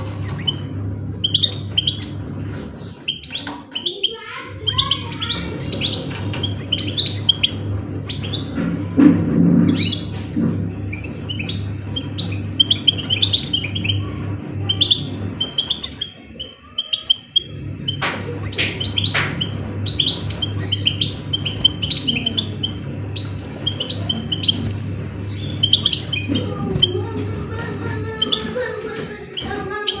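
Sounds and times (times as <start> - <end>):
finches chirping: 0.0 - 30.0
steady low hum: 0.0 - 30.0
wing flutters and knocks: 0.0 - 30.0.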